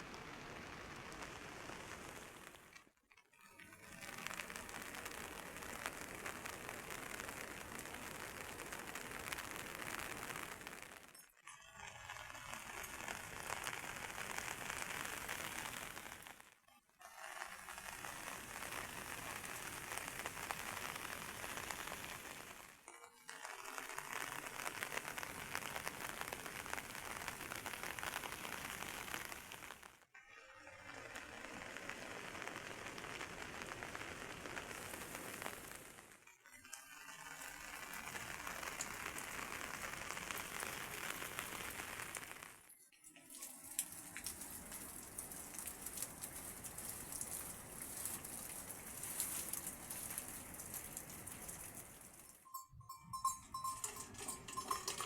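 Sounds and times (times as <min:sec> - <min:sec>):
heavy rain hissing: 0:00.0 - 0:02.7, 0:03.9 - 0:11.1, 0:12.5 - 0:16.4, 0:17.5 - 0:22.8, 0:23.8 - 0:29.9, 0:31.2 - 0:36.2, 0:37.3 - 0:42.7, 0:43.4 - 0:52.4.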